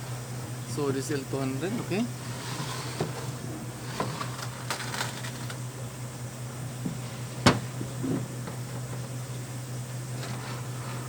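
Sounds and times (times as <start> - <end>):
steady low hum: 0.0 - 11.0
faint handling rustles: 0.7 - 11.0.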